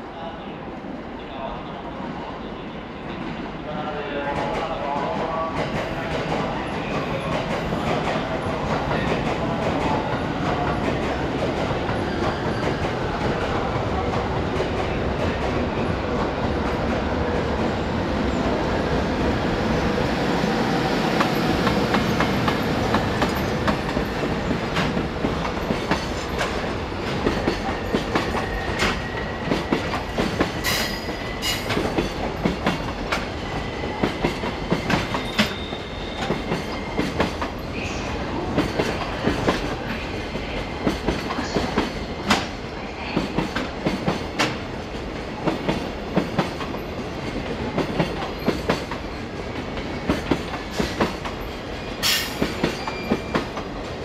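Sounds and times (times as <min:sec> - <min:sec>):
electric locomotive passing: 0:02.5 - 0:54.0.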